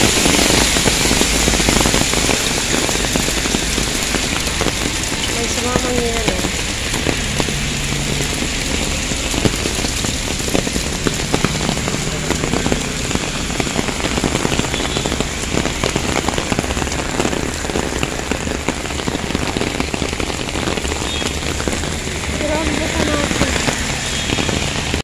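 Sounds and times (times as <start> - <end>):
hailstones ticking on hard surfaces: 0.0 - 25.0
heavy rain hissing: 0.0 - 25.0.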